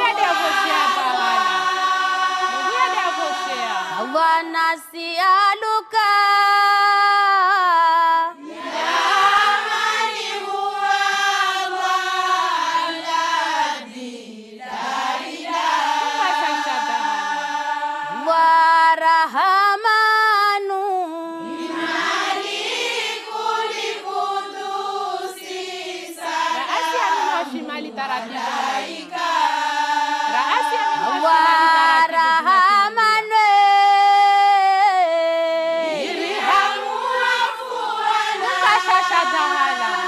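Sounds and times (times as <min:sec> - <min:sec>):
women's choir chanting in unison: 0:00.0 - 0:40.0.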